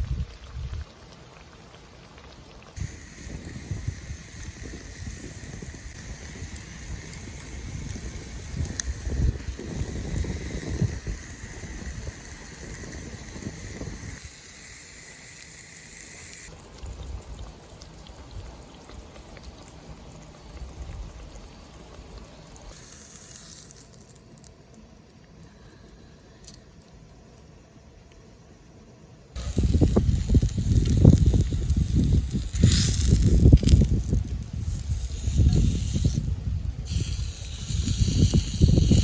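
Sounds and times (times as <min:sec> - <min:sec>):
food sizzling in hot fat: 0:00.0 - 0:24.5, 0:29.4 - 0:39.0
faint fire crackles: 0:00.0 - 0:39.0.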